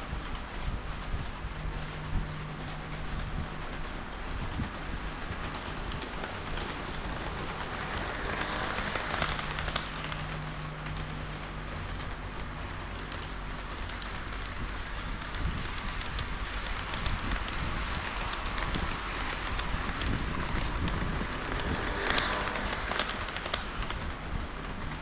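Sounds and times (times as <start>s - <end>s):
model trains rolling on track: 0.0s - 25.0s
wheels clicking over rail joints: 0.0s - 25.0s.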